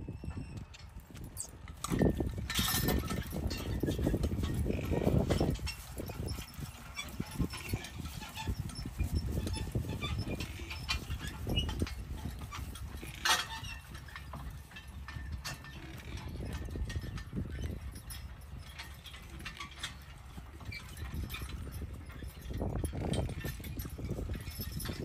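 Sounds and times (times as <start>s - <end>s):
wagon and harness rattling: 0.0s - 25.0s
wagon clank: 0.8s - 25.0s
horse hoofbeats on grass: 1.0s - 25.0s.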